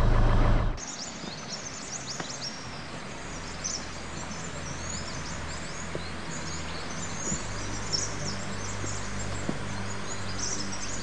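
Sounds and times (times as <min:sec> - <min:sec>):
forest birds chirping: 0:00.0 - 0:11.0
steady low hum: 0:00.0 - 0:11.0.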